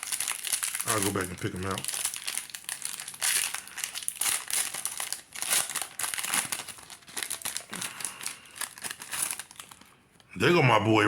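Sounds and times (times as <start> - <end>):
trading cards rustling: 0.0 - 9.9.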